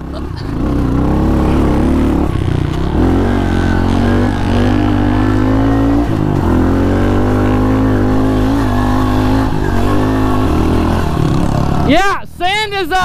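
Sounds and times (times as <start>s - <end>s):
motorbike engine revving: 0.0s - 12.2s.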